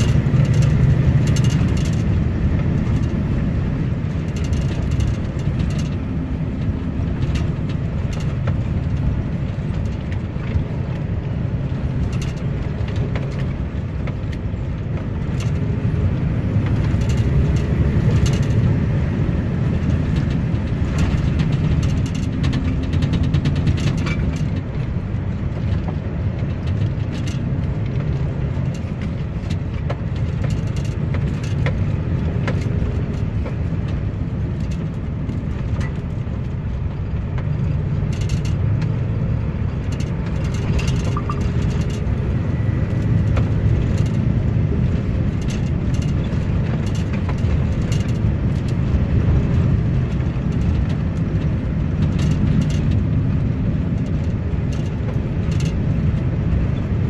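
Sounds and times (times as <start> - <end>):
lorry engine and tyre drone: 0.0 - 57.0
short rattles and knocks: 0.0 - 57.0.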